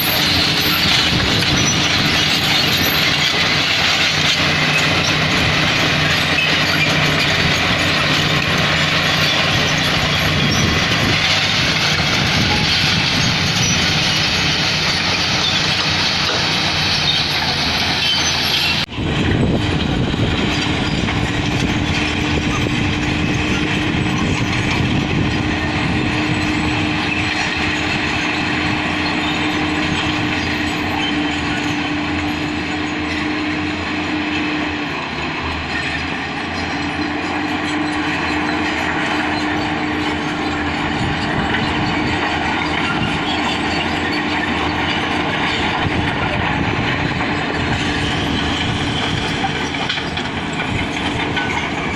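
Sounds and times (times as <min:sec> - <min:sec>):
diesel machinery running: 0:00.0 - 0:51.9.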